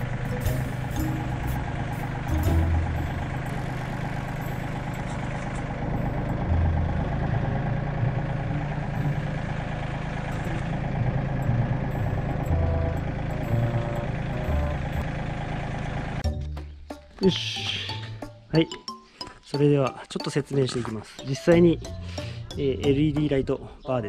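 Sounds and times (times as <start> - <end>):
tractor diesel engine running: 0.0 - 18.5, 20.2 - 24.0.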